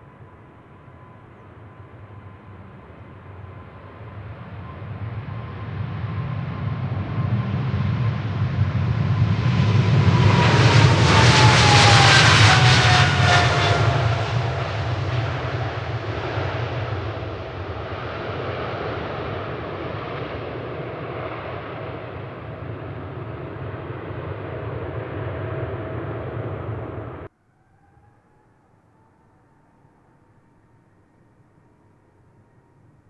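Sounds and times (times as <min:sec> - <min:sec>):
jet engines roaring at takeoff: 0:00.0 - 0:27.3
engine whine dropping in pitch: 0:00.0 - 0:33.0.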